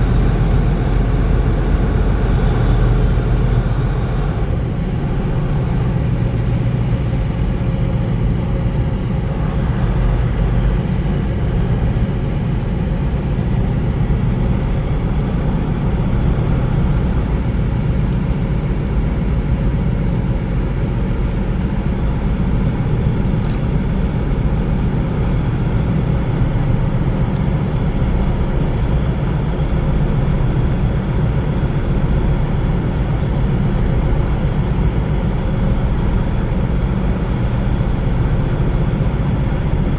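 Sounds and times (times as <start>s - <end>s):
ship diesel machinery drone: 0.0s - 39.9s.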